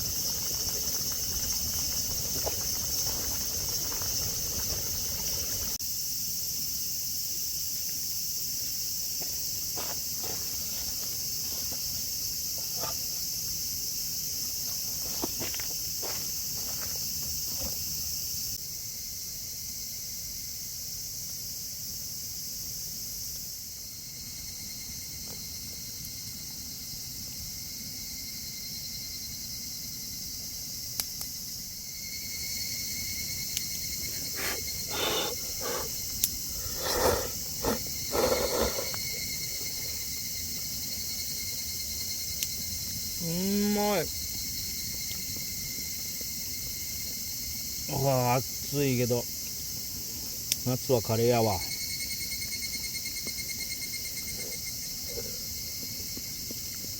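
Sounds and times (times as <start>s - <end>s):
insects buzzing: 0.0s - 56.9s.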